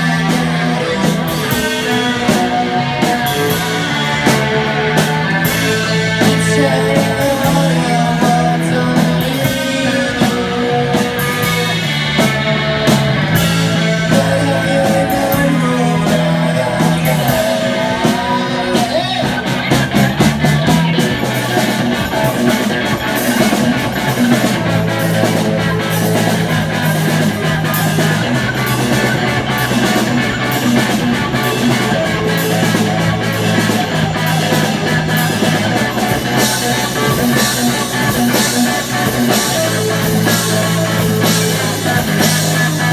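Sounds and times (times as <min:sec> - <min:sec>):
bass line: 0:00.0 - 0:42.9
rock band playing live: 0:00.0 - 0:42.9.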